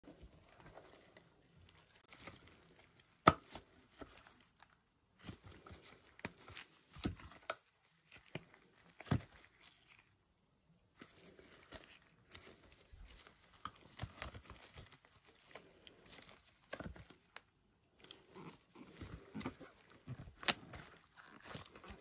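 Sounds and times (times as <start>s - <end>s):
silicone peeling and crinkling: 0.0s - 22.0s.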